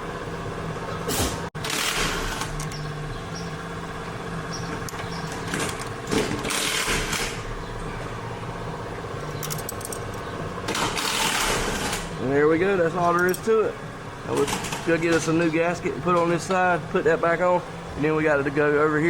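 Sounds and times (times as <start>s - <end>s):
machine humming: 1.6s - 19.0s.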